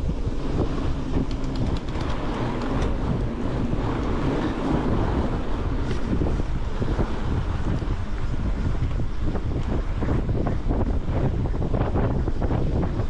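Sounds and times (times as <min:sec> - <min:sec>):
bike rolling on snow: 0:00.0 - 0:13.0
wind buffeting microphone: 0:00.0 - 0:13.0.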